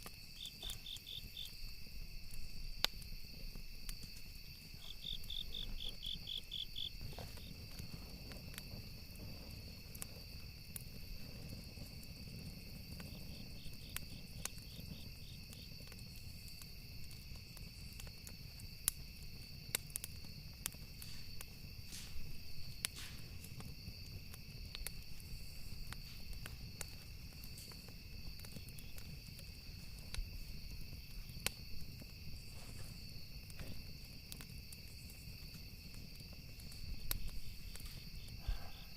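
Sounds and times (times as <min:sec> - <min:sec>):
campfire wood crackling: 0:00.0 - 0:38.9
crickets trilling: 0:00.0 - 0:38.9.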